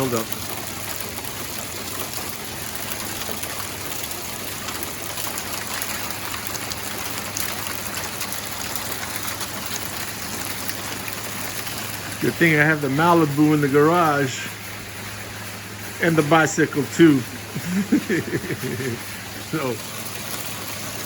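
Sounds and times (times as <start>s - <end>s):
hail pattering: 0.0s - 21.0s.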